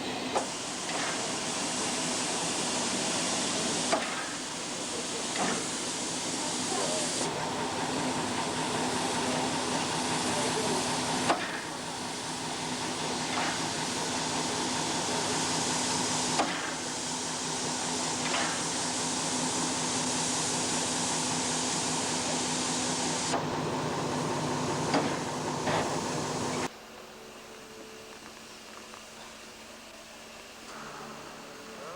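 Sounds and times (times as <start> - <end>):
steam engine hissing: 0.0 - 26.7.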